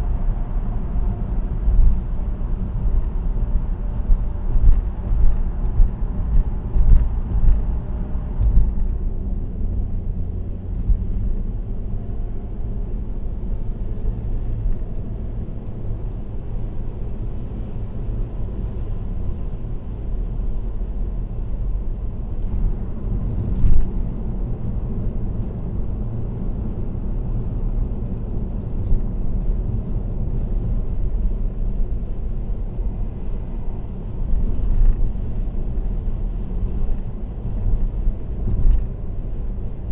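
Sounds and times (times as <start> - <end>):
car road and tyre rumble: 0.0 - 39.9.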